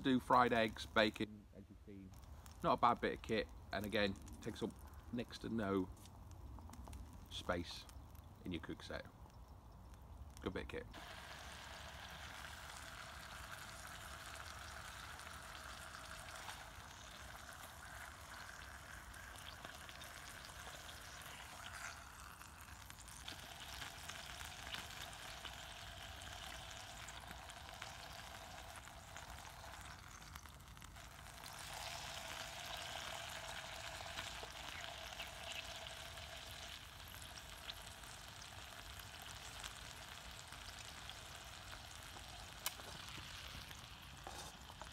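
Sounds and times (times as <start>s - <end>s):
bacon sizzling in a frying pan: 2.2s - 44.9s.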